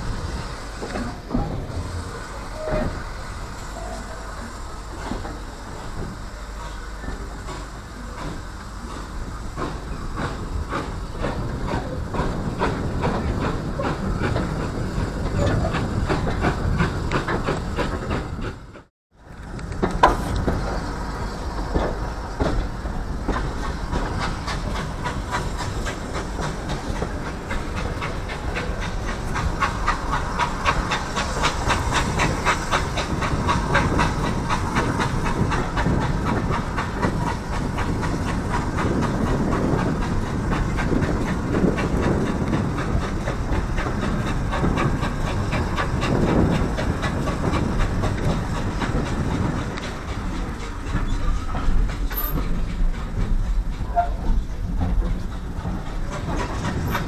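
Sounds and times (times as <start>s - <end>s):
steam locomotive exhaust beats: 0.0s - 57.0s
train wheels clattering on rails: 0.0s - 57.0s.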